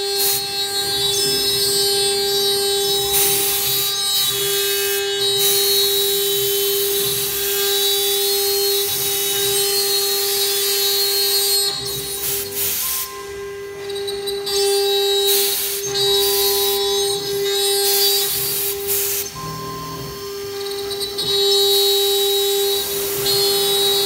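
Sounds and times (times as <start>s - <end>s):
router spindle whine: 0.0s - 24.0s.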